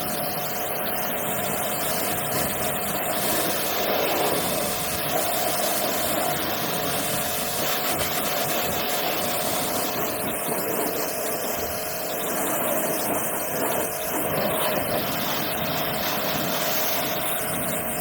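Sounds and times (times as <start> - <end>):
machine running with steady tone: 0.0 - 18.0.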